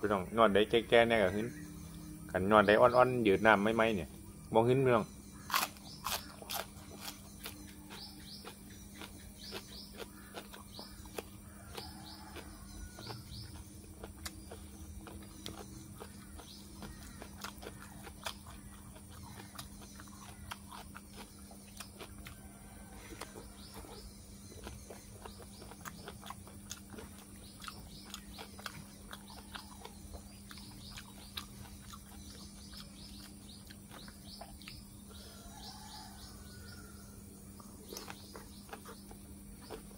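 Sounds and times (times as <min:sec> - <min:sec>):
faint birds chirping: 0:00.0 - 0:39.9
person chewing food: 0:05.4 - 0:35.3, 0:37.5 - 0:39.9.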